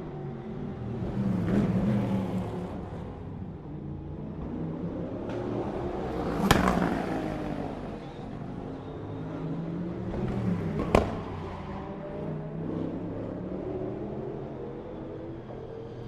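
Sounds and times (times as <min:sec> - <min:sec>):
race cars passing: 0:00.0 - 0:16.0.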